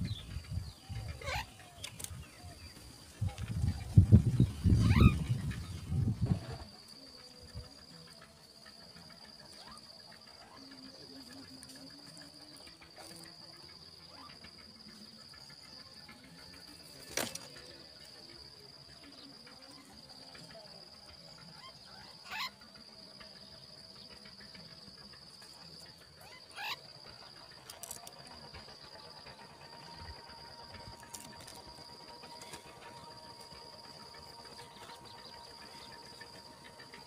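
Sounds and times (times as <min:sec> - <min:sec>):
high-pitched insect drone: 0:00.0 - 0:37.0.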